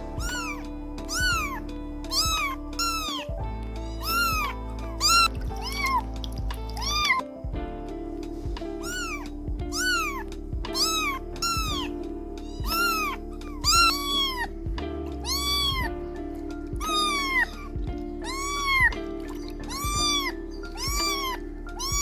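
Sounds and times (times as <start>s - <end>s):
background music: 0.0s - 22.0s
kittens meowing: 0.0s - 22.0s.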